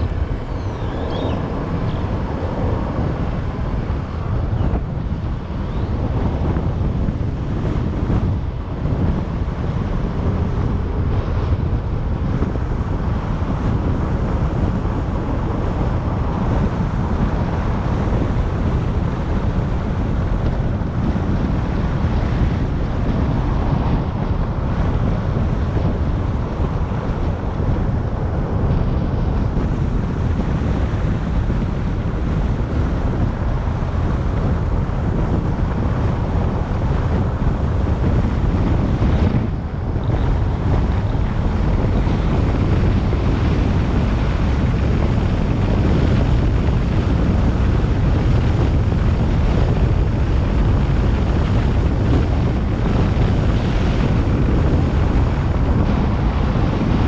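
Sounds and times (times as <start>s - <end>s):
car road noise: 0.0s - 57.0s
wind rushing over microphone: 0.0s - 57.0s.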